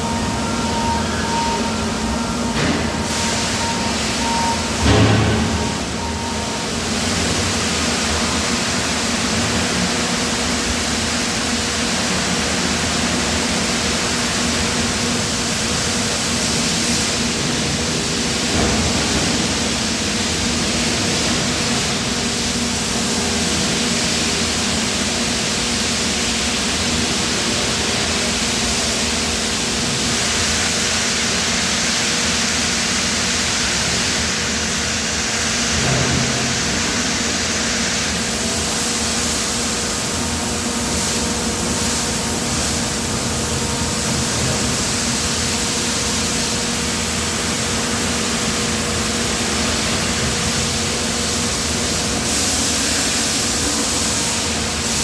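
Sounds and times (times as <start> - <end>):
industrial machinery hiss: 0.0 - 55.0.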